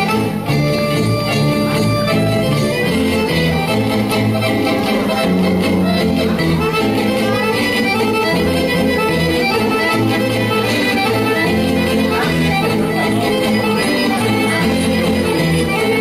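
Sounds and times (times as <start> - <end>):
accordion folk dance music: 0.0 - 16.0.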